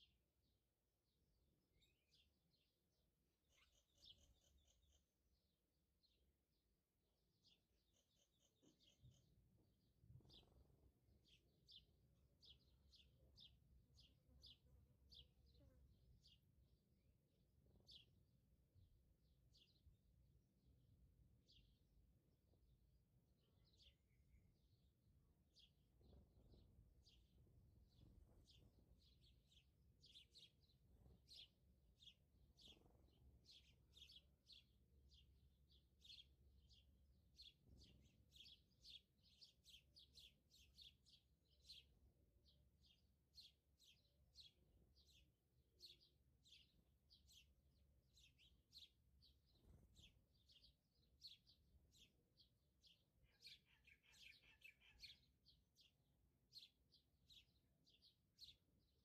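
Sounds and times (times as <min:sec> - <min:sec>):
bird chirping: 0:03.4 - 0:06.3, 0:07.4 - 0:16.5, 0:23.5 - 0:59.0.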